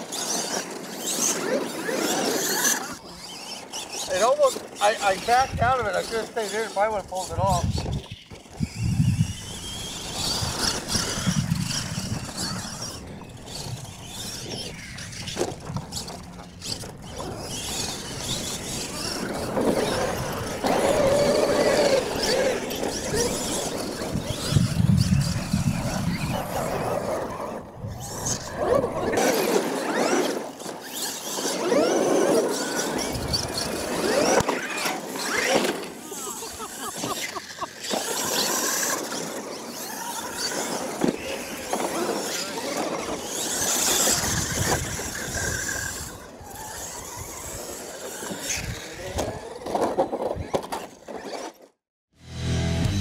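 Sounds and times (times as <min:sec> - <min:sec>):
toy truck motors whining: 0:00.0 - 0:51.8.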